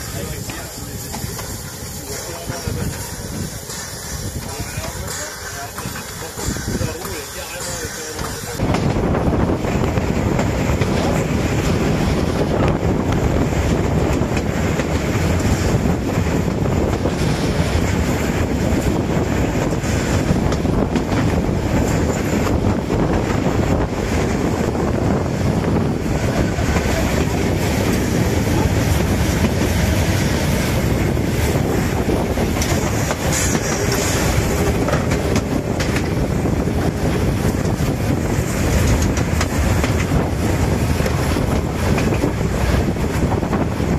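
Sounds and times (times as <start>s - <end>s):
steam locomotive wheels on rails: 0.0s - 43.9s.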